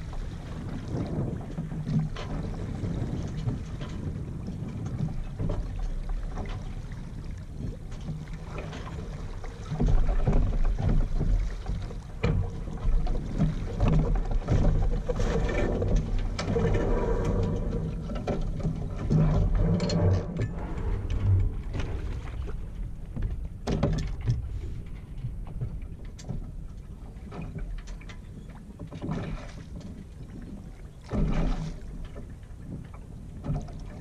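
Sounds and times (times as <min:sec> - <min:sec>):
wind buffeting microphone: 0:00.0 - 0:27.8
water moving along hull: 0:00.0 - 0:34.0
knocks and clicks from rigging: 0:00.9 - 0:21.9, 0:23.0 - 0:30.0, 0:31.0 - 0:34.0.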